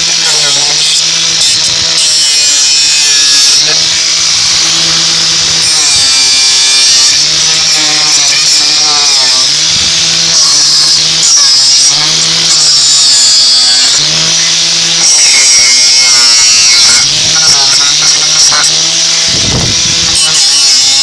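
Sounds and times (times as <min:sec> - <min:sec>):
angle grinder grinding metal: 0:00.0 - 0:21.0.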